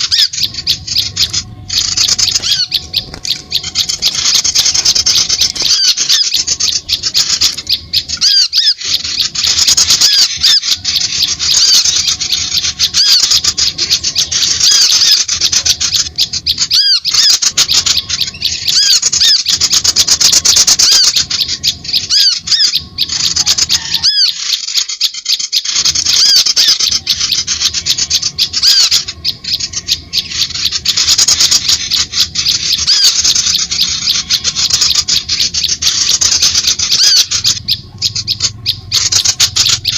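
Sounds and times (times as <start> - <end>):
songbirds chirping and chattering: 0.0 - 39.9.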